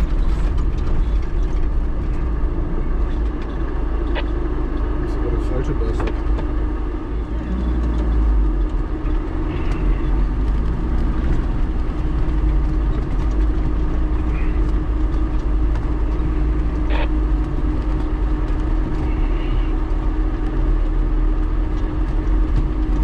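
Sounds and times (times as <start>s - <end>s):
low rumble of rough track: 0.0s - 23.0s
vehicle engine drone: 0.0s - 23.0s.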